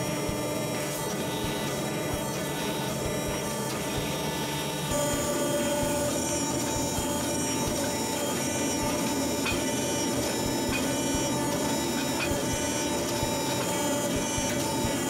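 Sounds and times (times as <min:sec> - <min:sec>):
workshop machine motor whirring: 0:00.0 - 0:15.0.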